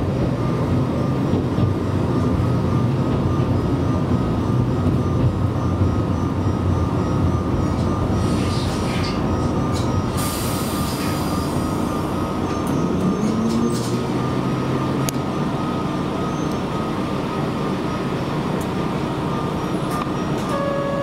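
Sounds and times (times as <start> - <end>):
diesel railcar engine idling: 0.0 - 21.0.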